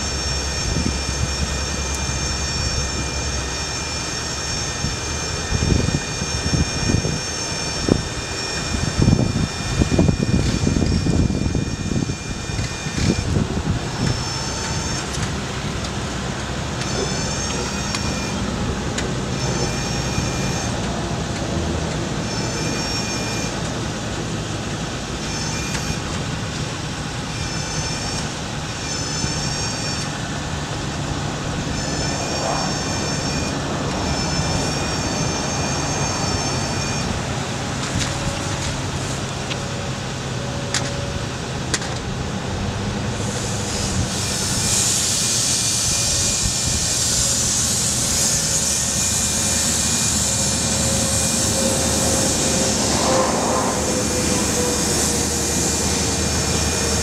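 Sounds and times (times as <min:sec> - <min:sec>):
high wavering hydraulic whine: 0:00.0 - 0:57.0
truck engine running: 0:00.0 - 0:57.0.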